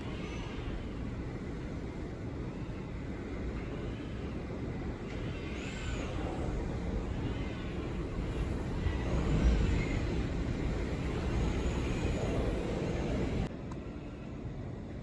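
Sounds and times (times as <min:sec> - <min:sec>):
gusting wind: 0:00.0 - 0:15.0.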